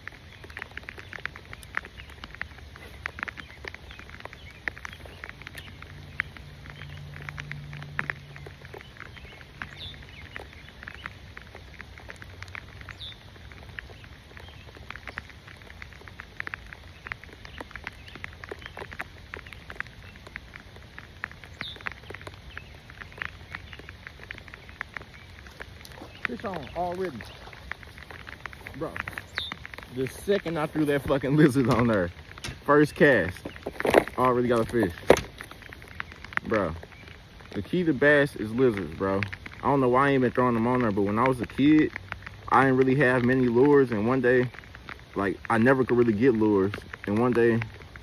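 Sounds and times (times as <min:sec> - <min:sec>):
rain falling: 0:00.0 - 0:48.0
raindrops tapping close by: 0:00.0 - 0:48.0.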